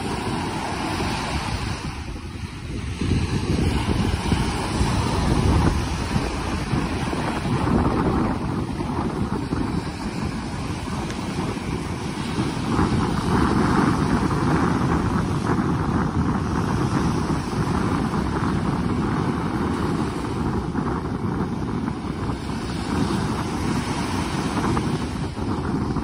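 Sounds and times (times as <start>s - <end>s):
small waves washing up a beach: 0.0s - 26.0s
wind buffeting microphone: 0.0s - 26.0s.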